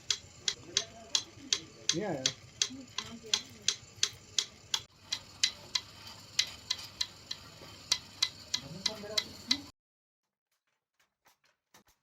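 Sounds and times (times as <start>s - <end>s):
wooden handloom clacking: 0.0s - 9.7s.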